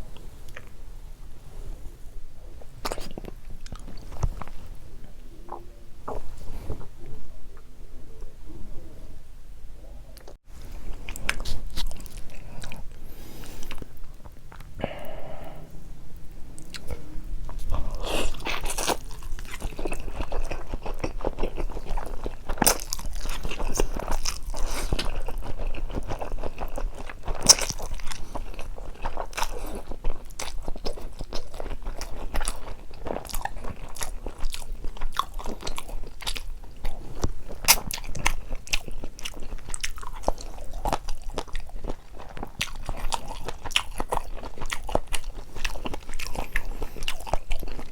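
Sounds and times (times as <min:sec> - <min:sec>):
person chewing noodles: 0:02.6 - 0:04.8, 0:10.2 - 0:47.9.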